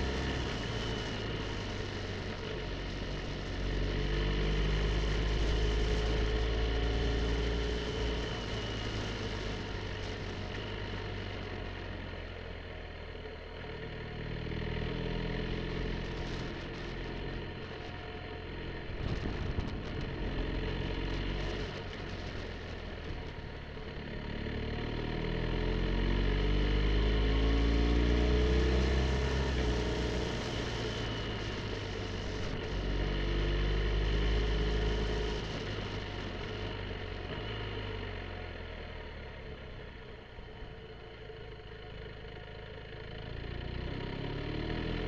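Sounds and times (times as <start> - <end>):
motorcycle engine accelerating: 0.0 - 12.2, 13.1 - 45.0.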